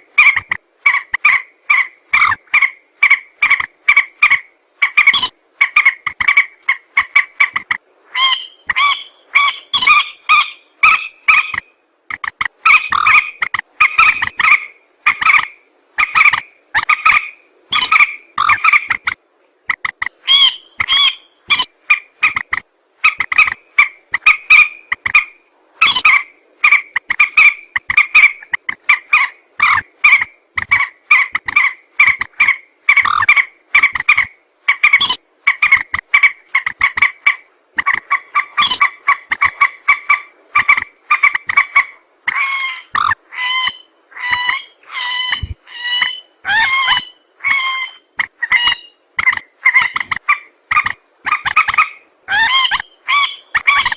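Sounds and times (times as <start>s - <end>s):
water bird clipped call notes: 0.2s - 53.9s.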